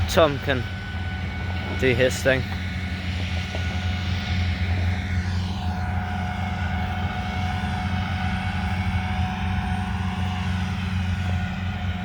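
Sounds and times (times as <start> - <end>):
farm machinery engines droning: 0.0 - 12.0.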